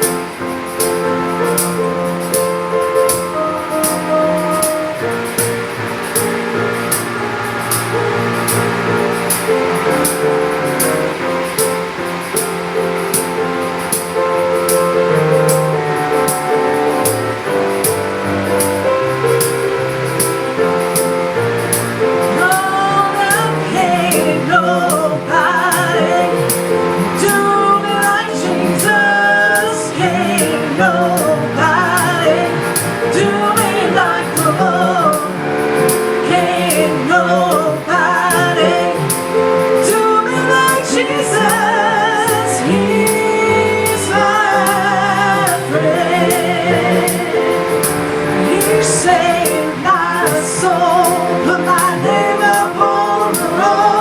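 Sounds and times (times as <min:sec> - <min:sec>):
person singing with vibrato: 0:00.0 - 0:54.0
sustained instrumental chords: 0:00.0 - 0:54.0.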